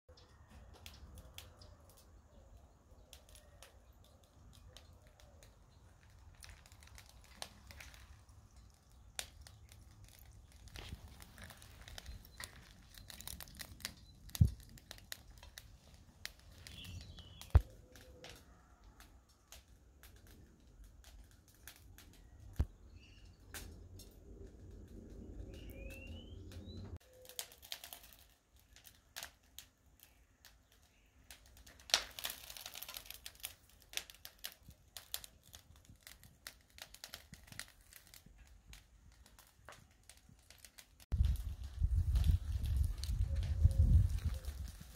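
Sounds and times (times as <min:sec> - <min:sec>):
charcoal crackling and popping: 0:00.1 - 0:44.9.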